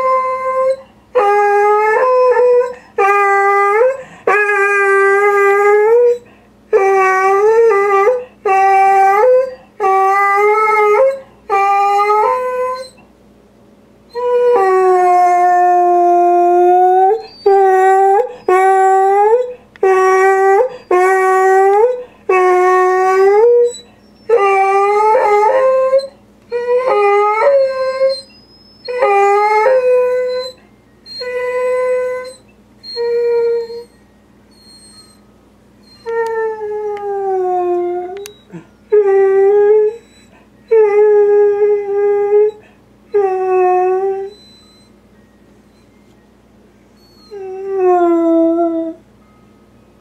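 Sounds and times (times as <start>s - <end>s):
dog howling: 0.0s - 13.0s, 14.1s - 35.2s, 35.8s - 44.9s, 47.0s - 49.0s.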